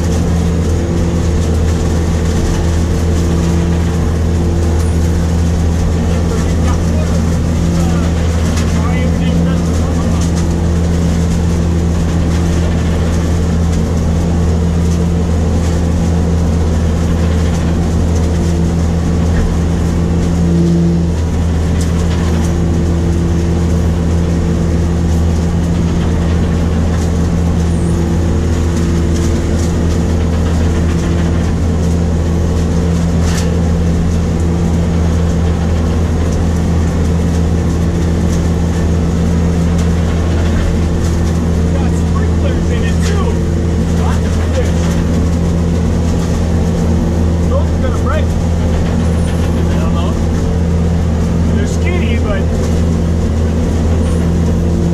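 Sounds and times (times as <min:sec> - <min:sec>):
harvester machinery drone: 0:00.0 - 0:54.9.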